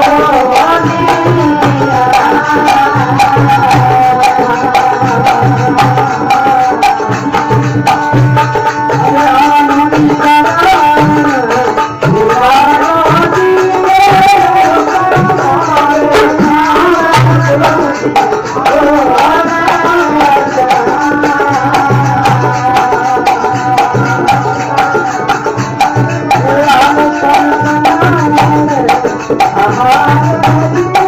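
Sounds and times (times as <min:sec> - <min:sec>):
hand drum rhythm: 0:00.0 - 0:31.0.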